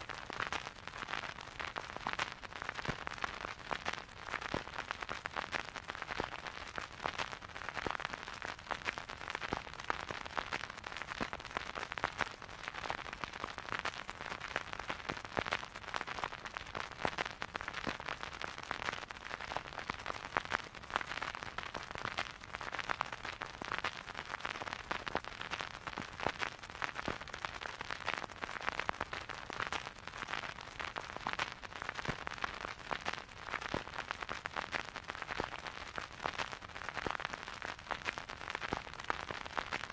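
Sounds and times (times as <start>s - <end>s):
vinyl crackle and pops: 0.0s - 39.9s.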